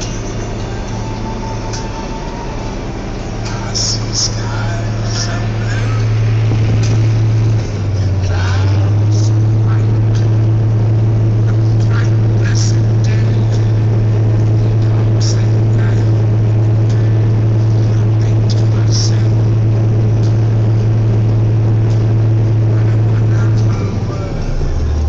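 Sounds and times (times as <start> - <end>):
tractor diesel engine droning: 0.0 - 25.0.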